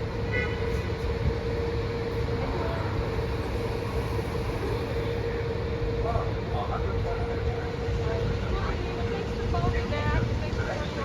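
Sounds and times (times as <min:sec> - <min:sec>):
mid-pitched hum: 0:00.0 - 0:11.0
train rumbling: 0:00.0 - 0:11.0.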